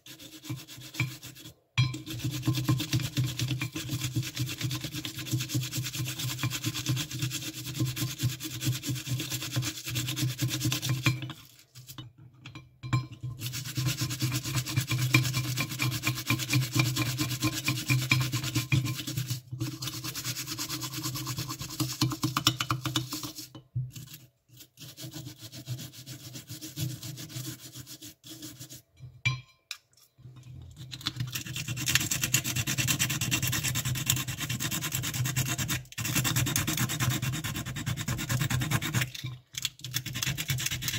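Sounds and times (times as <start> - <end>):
toothbrush scrubbing metal: 0.0 - 12.0, 12.9 - 28.8, 30.7 - 40.9.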